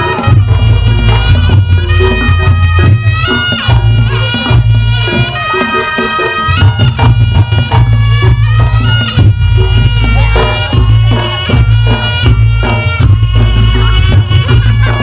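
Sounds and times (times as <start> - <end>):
booming drums: 0.0 - 15.0
shawm playing loud held notes: 0.0 - 15.0.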